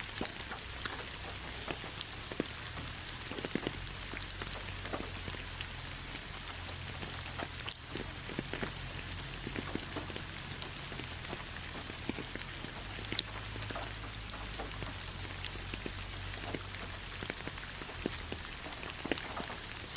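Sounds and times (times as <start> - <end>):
rain pattering on leaves: 0.0 - 19.9.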